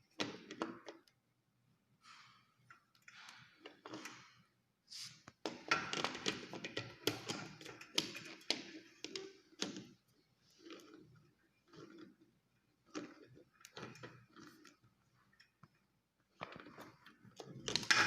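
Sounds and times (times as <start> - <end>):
scraping on plumbing fittings: 2.7 - 18.0.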